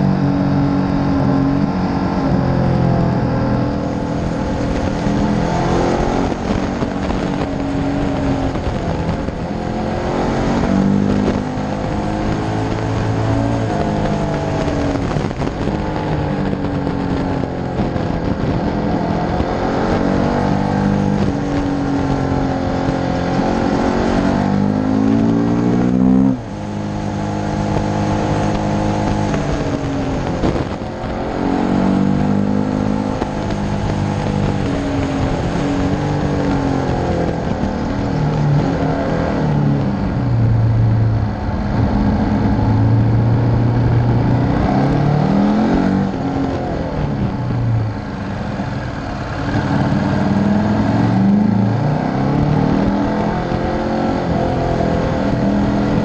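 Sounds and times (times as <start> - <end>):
motorcycle engine revving: 0.0 - 56.0
wind rushing against microphone: 0.0 - 56.0.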